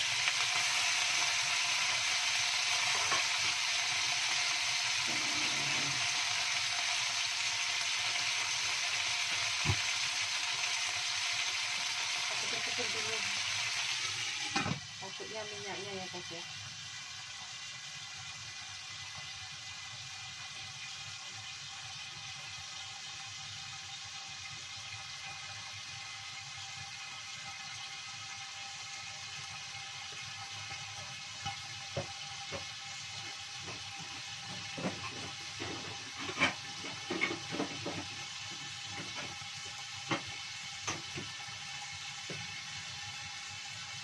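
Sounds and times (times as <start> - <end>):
hot oil popping and spitting: 0.0 - 15.3, 17.8 - 44.0
fish sizzling in a wok: 0.0 - 44.0.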